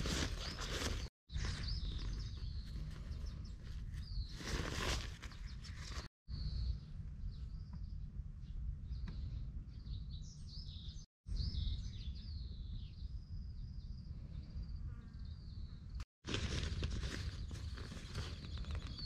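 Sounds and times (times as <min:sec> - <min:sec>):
small birds chirping and trilling: 0:00.1 - 0:16.0, 0:17.1 - 0:19.0.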